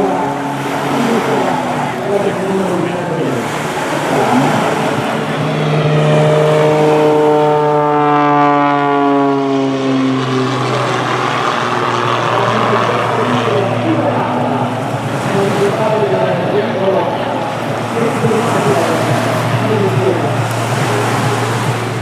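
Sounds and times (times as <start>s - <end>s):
propeller plane flying past: 0.0s - 22.0s
rough noisy engine: 0.0s - 22.0s.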